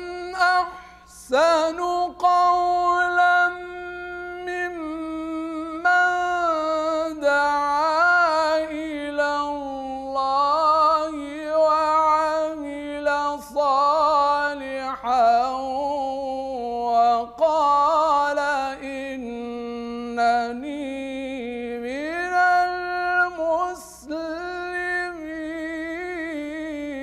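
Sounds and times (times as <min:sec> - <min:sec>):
man reciting in melodic chant: 0:00.0 - 0:27.0.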